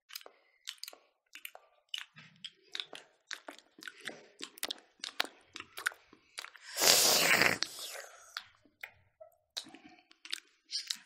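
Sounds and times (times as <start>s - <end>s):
people chewing with clicks and smacks: 0.0s - 11.0s.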